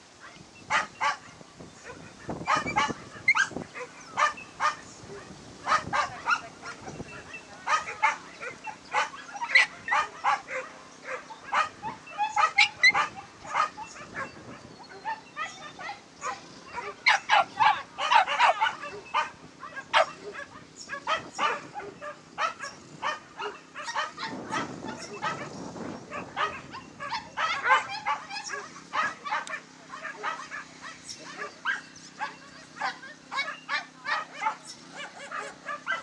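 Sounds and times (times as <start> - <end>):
dogs barking and yelping: 0.6 - 36.0.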